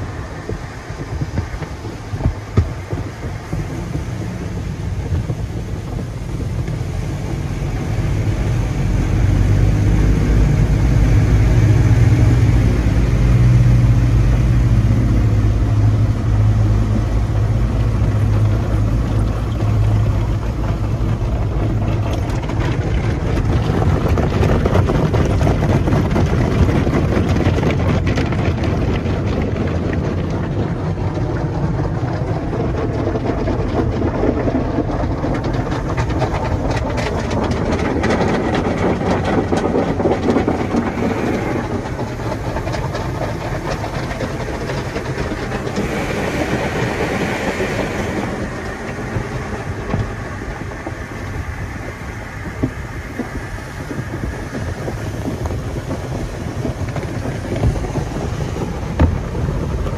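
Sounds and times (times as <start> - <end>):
car wash brushes slapping: 0.0 - 59.9
water spraying: 0.0 - 59.9.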